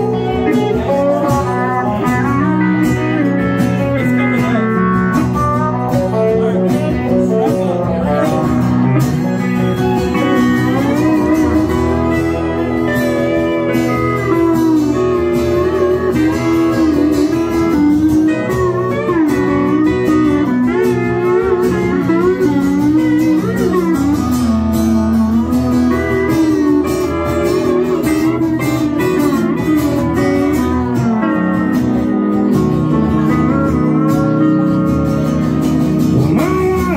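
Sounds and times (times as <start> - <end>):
acoustic guitar accompaniment: 0.0 - 36.9
pedal steel guitar sliding notes: 0.0 - 36.9.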